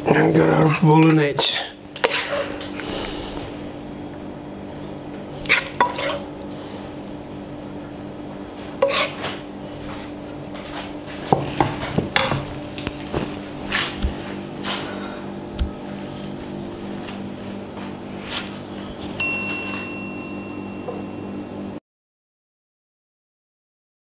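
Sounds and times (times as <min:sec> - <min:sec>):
faint steady hum: 0:00.0 - 0:21.8.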